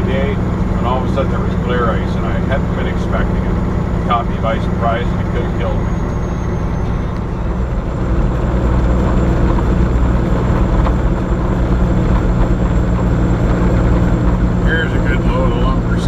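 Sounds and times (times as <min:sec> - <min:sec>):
road and wind noise: 0:00.0 - 0:16.0
truck diesel engine running: 0:00.0 - 0:16.0.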